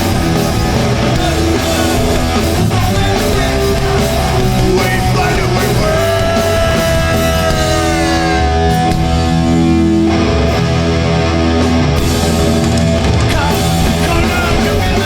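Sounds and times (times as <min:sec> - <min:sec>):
punk band playing: 0:00.0 - 0:15.0.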